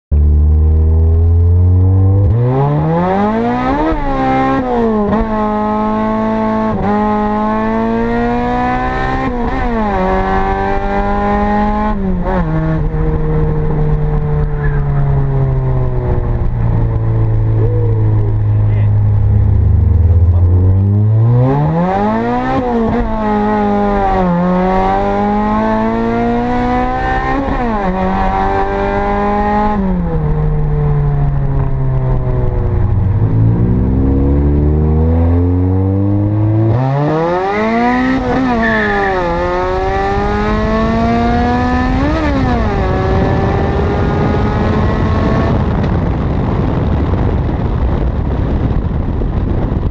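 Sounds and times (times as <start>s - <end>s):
car engine accelerating through gears: 0.1s - 49.9s
wind noise: 0.2s - 49.9s.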